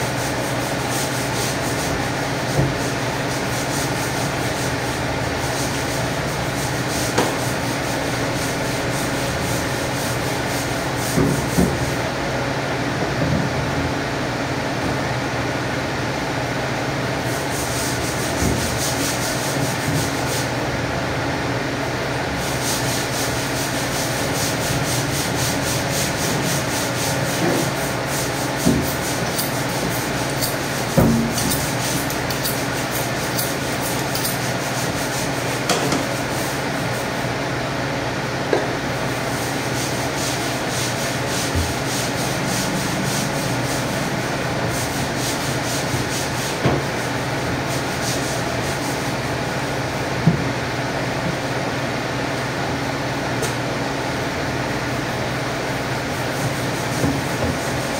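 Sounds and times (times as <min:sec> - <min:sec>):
machinery hum and hiss: 0:00.0 - 0:57.9.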